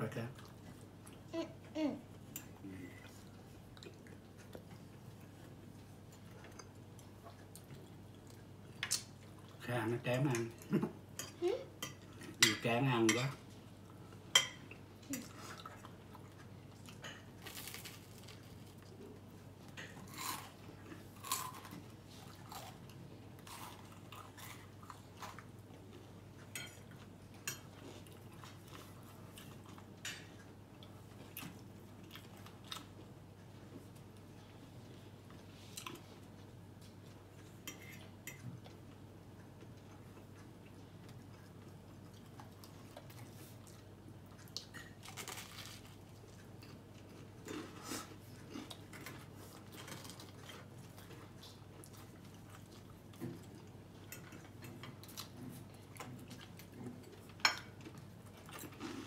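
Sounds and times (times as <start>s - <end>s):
chewing and crunching food: 0.2s - 12.5s, 13.2s - 59.0s.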